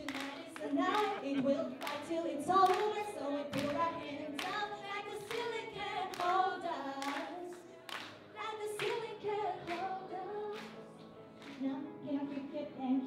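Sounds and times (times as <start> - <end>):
handclaps: 0.0 - 6.4, 7.0 - 10.8, 11.4 - 11.6
young women singing: 0.0 - 13.0.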